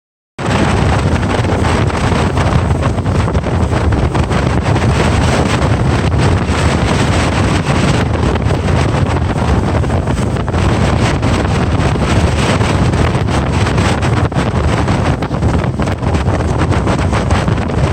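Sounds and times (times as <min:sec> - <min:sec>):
wind buffeting microphone: 0:00.4 - 0:17.9.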